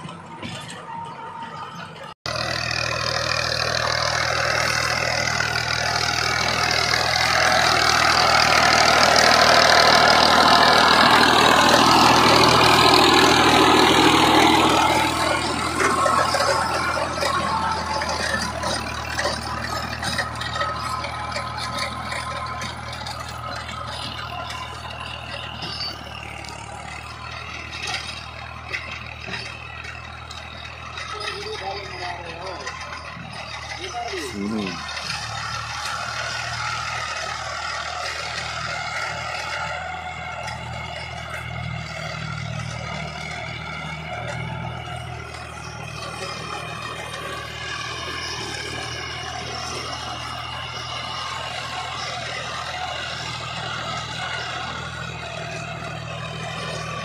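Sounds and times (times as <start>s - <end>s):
rotavator churning noise: 0.0s - 57.0s
tractor engine running under load: 0.0s - 57.0s.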